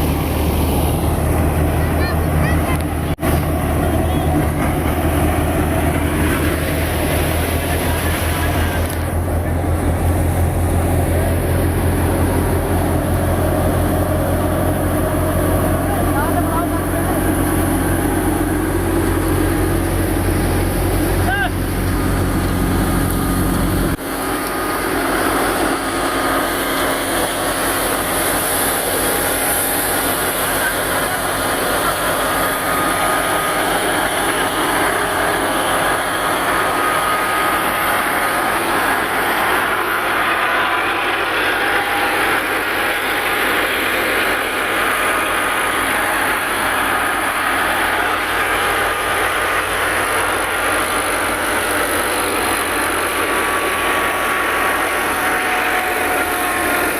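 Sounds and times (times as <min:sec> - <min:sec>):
thresher running: 0:00.0 - 0:56.9.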